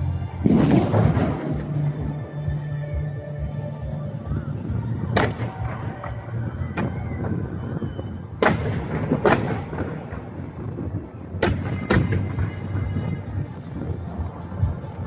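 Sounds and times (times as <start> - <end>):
fireworks bangs with crackle: 0.0 - 2.6, 4.8 - 14.8
low rumble: 0.0 - 15.0.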